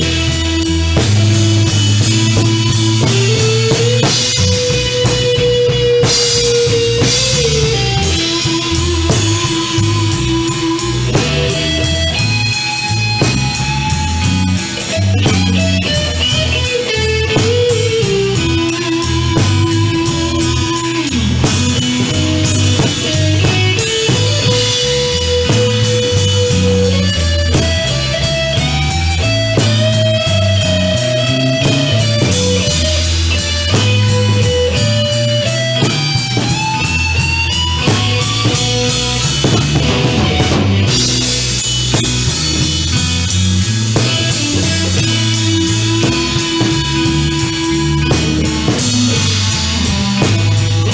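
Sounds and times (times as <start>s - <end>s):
bass guitar: 0.0s - 50.9s
drum kit: 0.0s - 50.9s
lead electric guitar: 0.0s - 50.9s.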